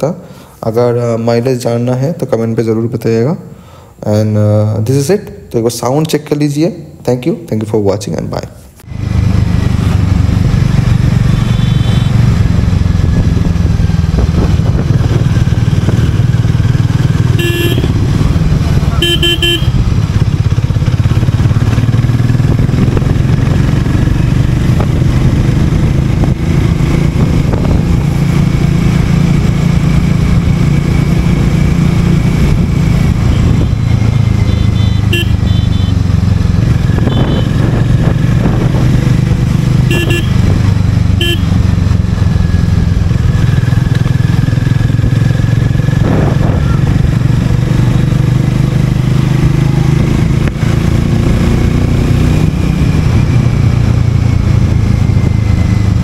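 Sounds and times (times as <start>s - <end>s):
motorcycle engine running: 8.9s - 56.0s.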